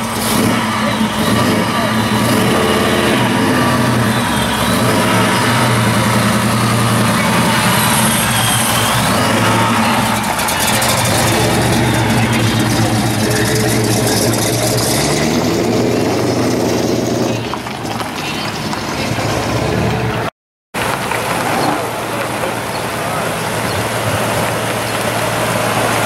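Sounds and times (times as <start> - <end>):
another car engine running: 0.0 - 26.0
car engine rumbling: 0.0 - 26.0.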